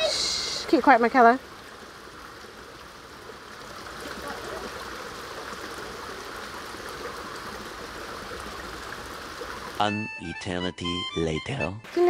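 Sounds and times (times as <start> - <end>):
stream running over rocks: 0.0 - 9.8.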